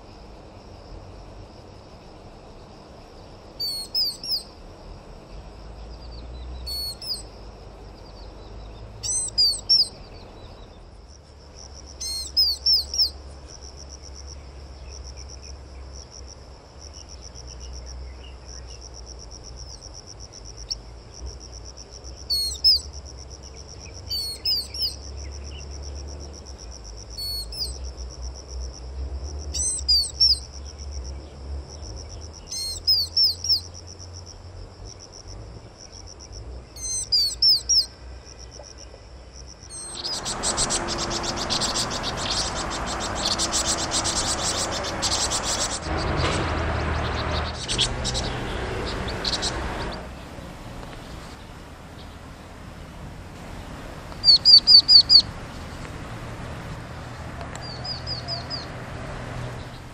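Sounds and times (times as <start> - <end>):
insect trill: 0.0 - 58.9
songbird singing: 0.0 - 59.9.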